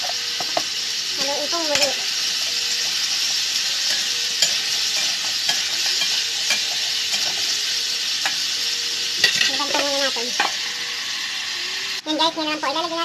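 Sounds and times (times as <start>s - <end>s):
utensil scraping and knocking wok: 0.0s - 11.9s
vegetables sizzling in oil: 0.0s - 13.0s.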